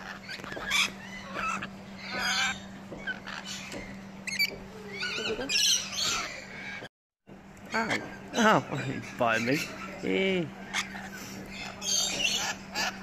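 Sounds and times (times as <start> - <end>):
lorikeets shrill calls: 0.0 - 6.8, 7.7 - 13.0.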